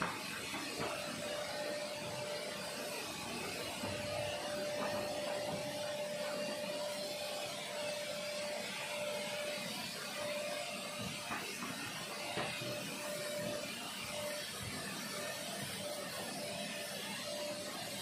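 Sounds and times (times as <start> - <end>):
vacuum cleaner whining: 0.0 - 18.0.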